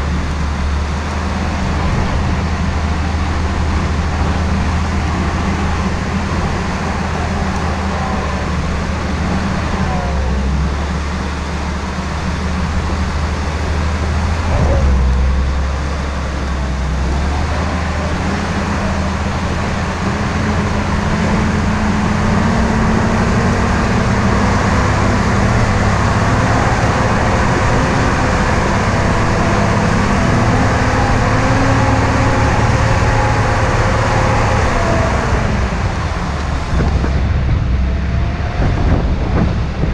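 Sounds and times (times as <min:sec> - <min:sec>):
car engine running: 0:00.0 - 0:39.9
road and wind noise: 0:00.0 - 0:39.9.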